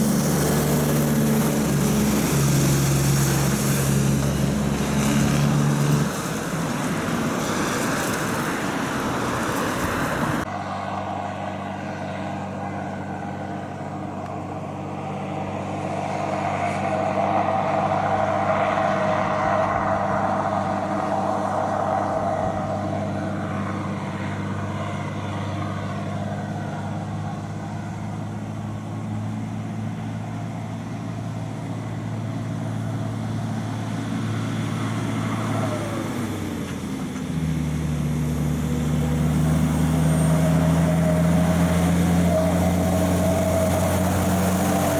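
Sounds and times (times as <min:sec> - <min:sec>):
tyres hissing on wet road: 0:00.0 - 0:14.0, 0:15.0 - 0:44.9
truck diesel engine droning: 0:00.0 - 0:44.9.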